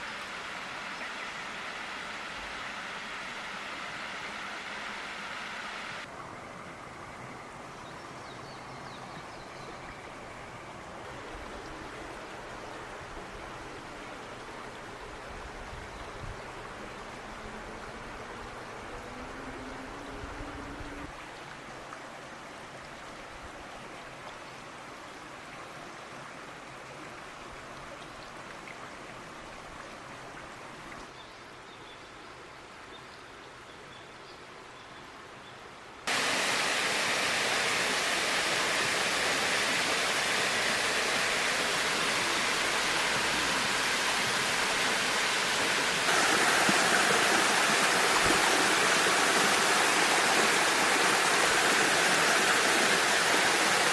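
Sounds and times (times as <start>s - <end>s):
waterfall rushing water: 0.0s - 27.8s, 36.1s - 53.9s.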